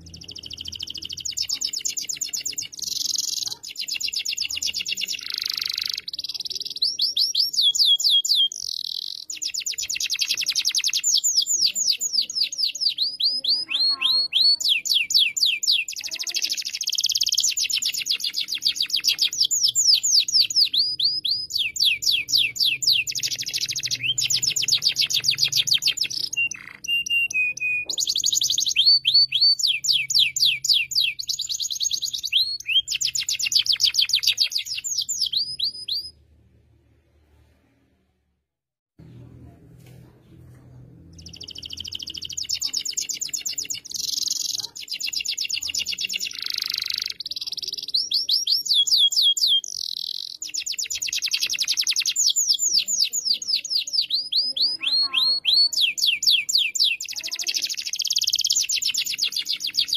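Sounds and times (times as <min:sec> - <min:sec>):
canary singing trills: 0:00.0 - 0:36.2, 0:41.1 - 0:59.9.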